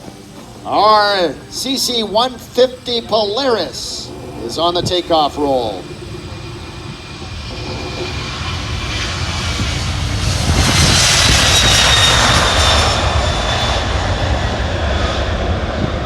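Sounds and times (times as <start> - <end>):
high turbine whine: 0.0 - 16.0
jet airliner taking off: 0.0 - 16.0.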